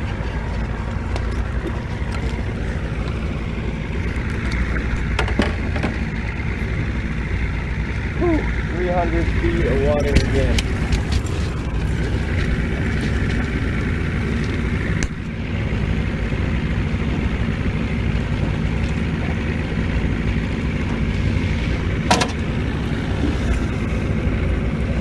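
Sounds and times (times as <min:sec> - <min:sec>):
boat motor low rumble: 0:00.0 - 0:25.0.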